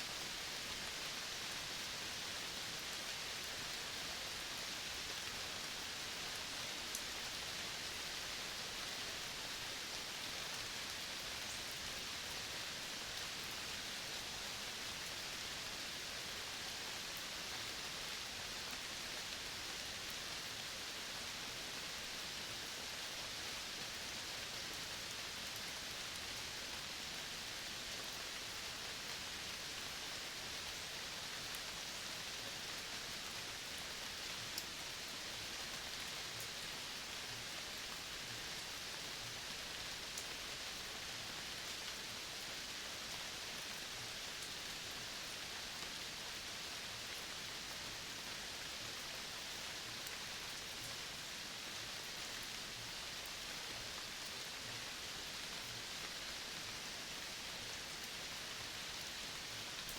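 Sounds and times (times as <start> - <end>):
outdoor ambience hiss: 0.0 - 59.9.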